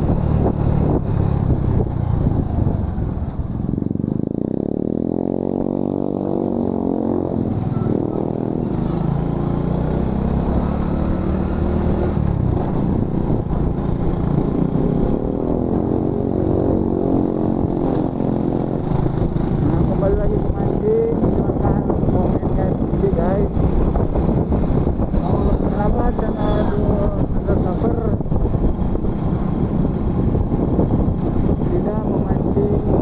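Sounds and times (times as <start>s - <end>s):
motorcycle engine speeding up: 0.0s - 33.0s.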